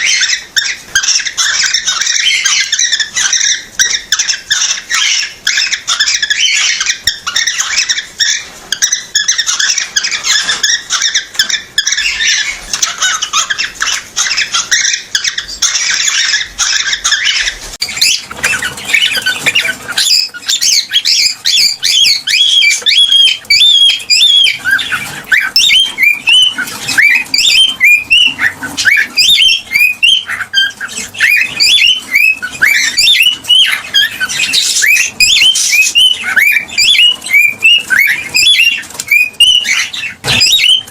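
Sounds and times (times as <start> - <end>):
cockatiel harsh chattering: 0.0 - 40.9
cockatiel whistled chirps: 0.0 - 40.9.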